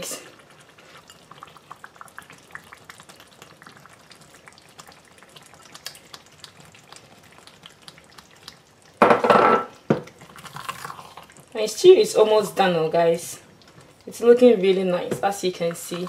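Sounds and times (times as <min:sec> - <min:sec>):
stew sizzling with crackles: 0:00.0 - 0:16.0.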